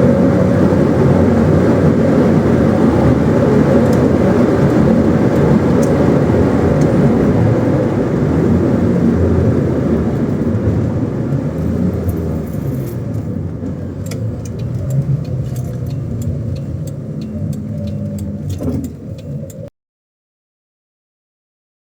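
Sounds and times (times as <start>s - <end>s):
car engine rumbling: 0.0s - 19.7s.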